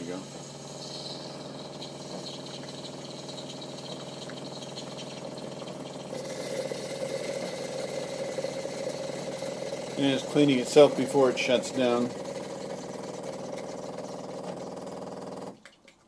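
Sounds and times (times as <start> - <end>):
coffee machine pump humming: 0.0 - 15.9.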